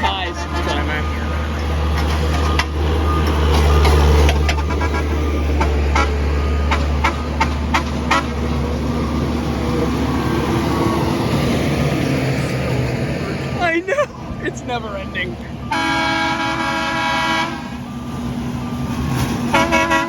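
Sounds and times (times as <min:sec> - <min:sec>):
diesel engines droning: 0:00.0 - 0:20.0.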